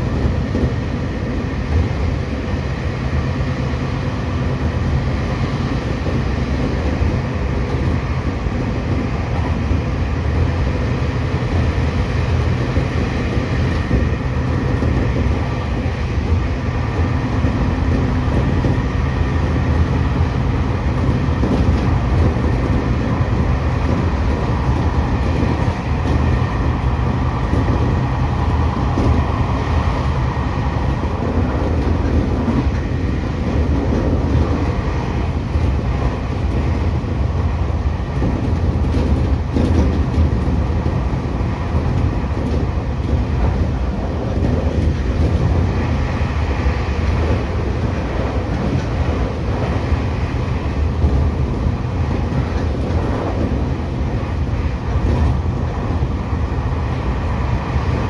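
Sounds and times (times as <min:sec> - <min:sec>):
train rumbling on rails: 0:00.0 - 0:58.0.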